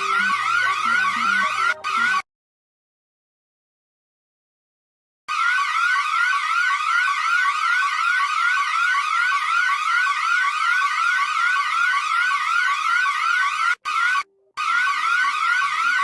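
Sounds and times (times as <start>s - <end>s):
emergency alert alarm yelp: 0.0s - 2.2s, 5.3s - 16.0s.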